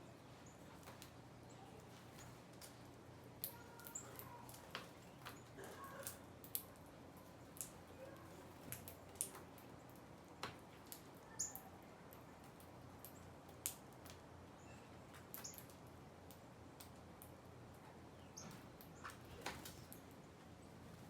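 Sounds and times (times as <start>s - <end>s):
birds pecking at seed: 0.2s - 21.0s.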